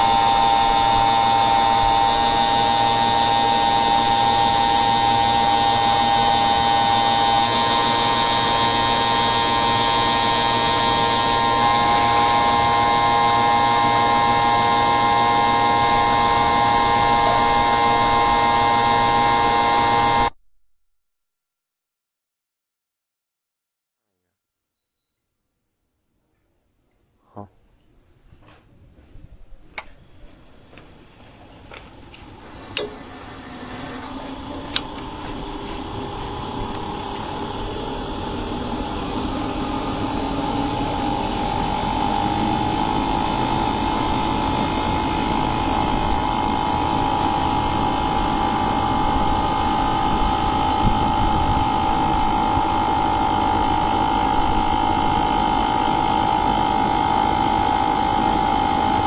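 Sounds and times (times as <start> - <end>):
air conditioner motor humming: 0.0 - 20.3, 29.4 - 59.0
high-pitched whine: 0.0 - 20.4, 29.9 - 59.0.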